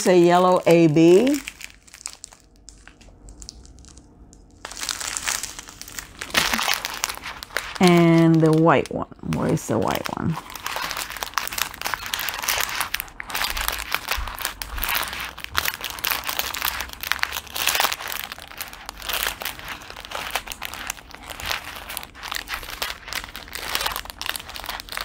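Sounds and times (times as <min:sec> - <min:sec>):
plastic packets crinkling: 0:00.0 - 0:25.0.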